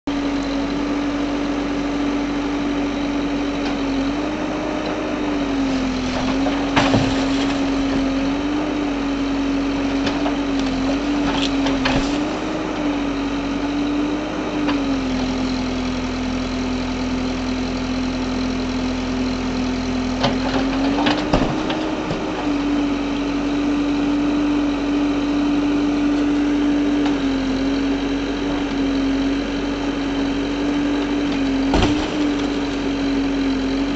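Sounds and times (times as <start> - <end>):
machinery engine running: 0.0 - 33.9.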